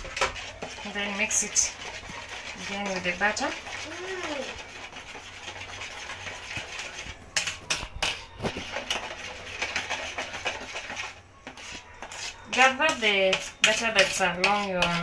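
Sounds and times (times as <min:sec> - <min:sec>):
metal spoon scraping plastic bowl: 0:00.0 - 0:15.0.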